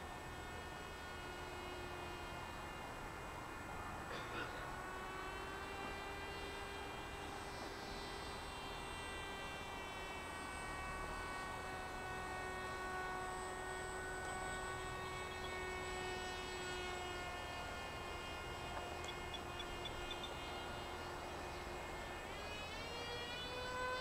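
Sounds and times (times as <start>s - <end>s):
electric motor and propeller droning: 0.0s - 24.0s.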